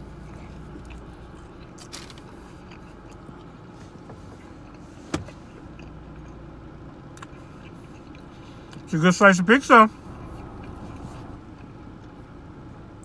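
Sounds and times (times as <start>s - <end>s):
low hum inside car cabin: 0.0s - 13.0s.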